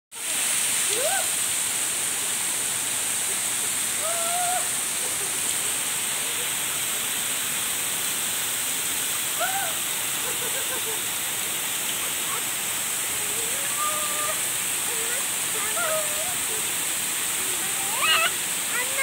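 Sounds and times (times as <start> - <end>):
waterfall rushing: 0.2 - 19.0.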